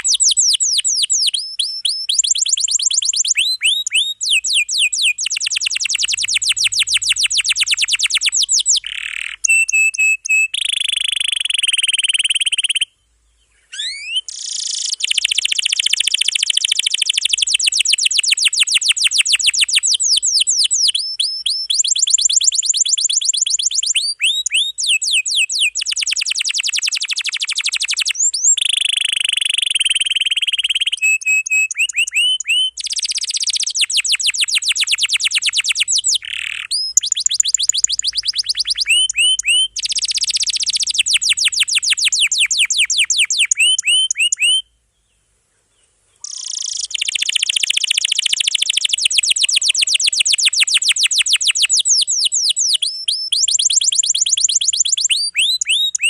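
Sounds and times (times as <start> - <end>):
canary singing: 0.0 - 44.8, 46.2 - 56.0.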